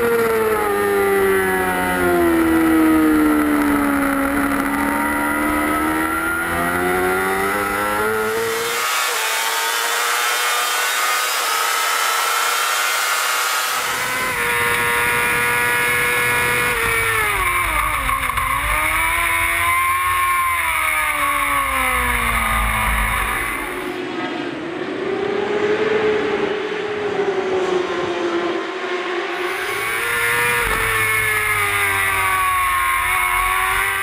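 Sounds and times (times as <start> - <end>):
racing motorcycle engines: 0.0 - 34.0.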